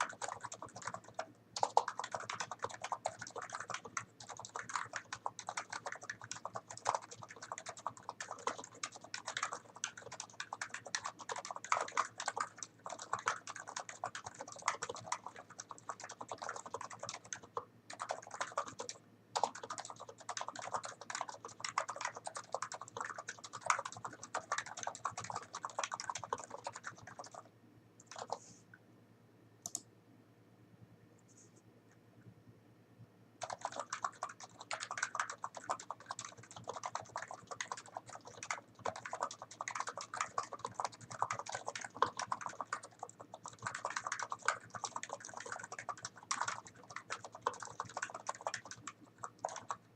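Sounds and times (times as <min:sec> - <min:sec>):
keyboard typing: 0:00.0 - 0:28.6, 0:29.6 - 0:29.9, 0:33.4 - 0:49.9.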